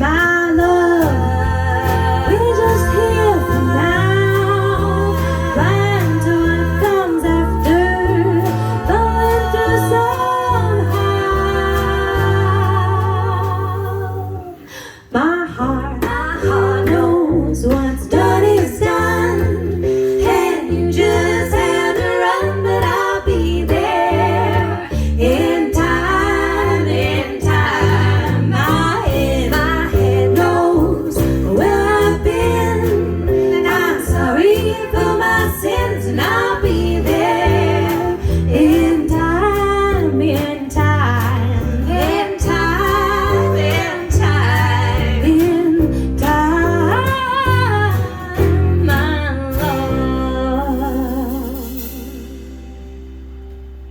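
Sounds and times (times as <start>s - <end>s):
low bass line: 0.0s - 14.6s, 15.4s - 53.9s
women singing: 0.0s - 52.5s
guitar: 0.0s - 53.9s.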